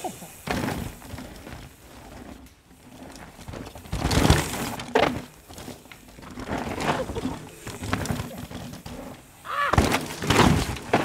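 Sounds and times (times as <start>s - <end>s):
bike tyres crunching on dirt: 0.0s - 11.0s
bike clattering over bumps: 0.2s - 11.0s.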